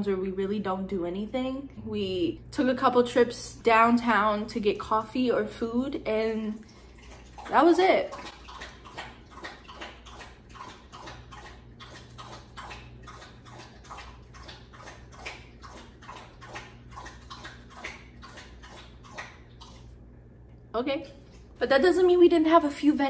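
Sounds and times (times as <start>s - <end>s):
dog lapping water: 3.2s - 22.1s.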